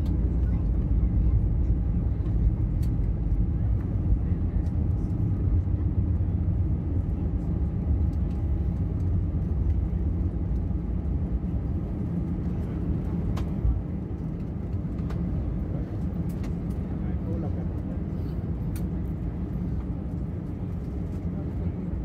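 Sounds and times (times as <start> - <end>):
wheels and engines rumbling: 0.0 - 22.0.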